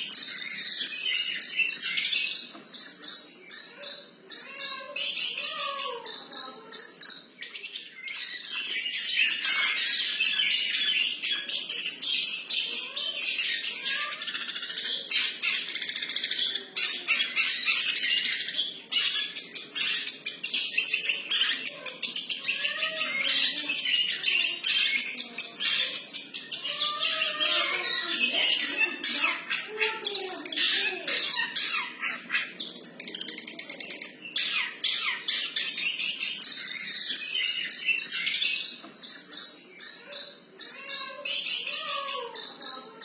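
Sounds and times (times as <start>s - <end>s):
bird singing rapid high chirps: 0.0s - 43.0s.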